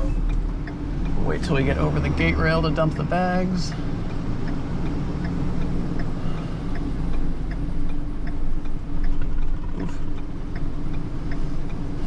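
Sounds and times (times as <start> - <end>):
light regular ticking: 0.0 - 12.0
truck engine running: 0.0 - 12.0.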